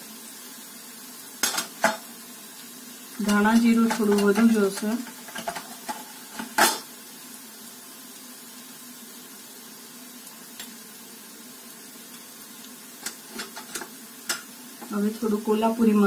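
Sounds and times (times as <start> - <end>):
onions frying in oil: 0.0 - 16.0.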